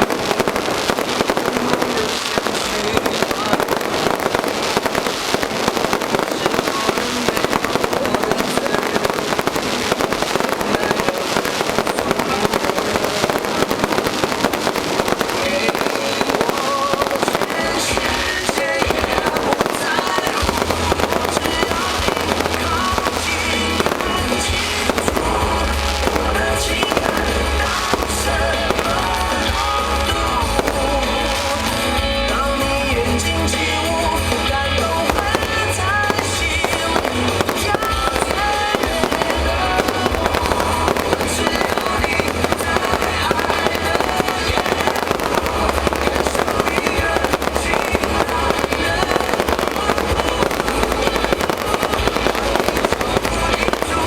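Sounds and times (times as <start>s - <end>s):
fireworks bursting and crackling: 0.0s - 54.0s
music playing: 0.0s - 54.0s.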